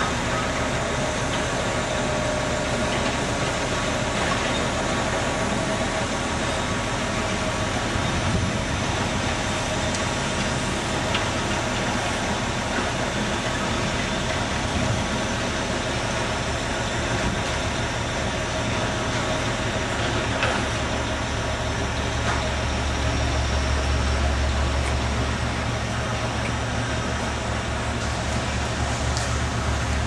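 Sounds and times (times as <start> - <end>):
machinery humming: 0.0 - 30.0.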